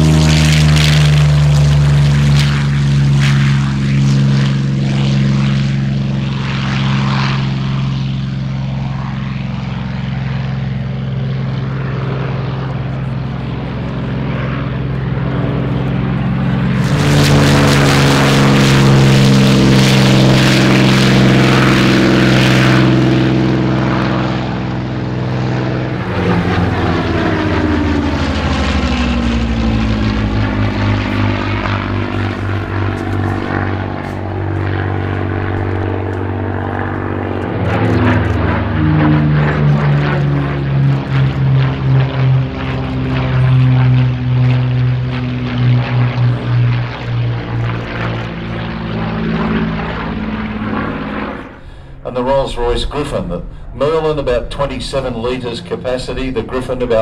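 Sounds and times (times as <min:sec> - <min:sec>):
piston engine aircraft taking off: 0:00.0 - 0:57.0
piston-engine planes flying overhead: 0:00.0 - 0:57.0.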